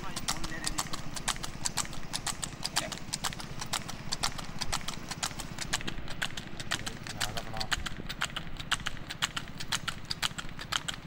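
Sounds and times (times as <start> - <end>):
cart wheels rumbling on road: 0.0 - 11.0
hooves clopping on asphalt: 0.0 - 11.0.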